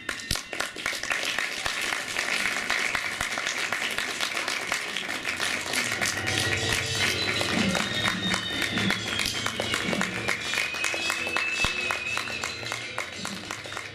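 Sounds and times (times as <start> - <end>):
audience applauding: 0.0 - 13.9
music playing: 0.0 - 13.9.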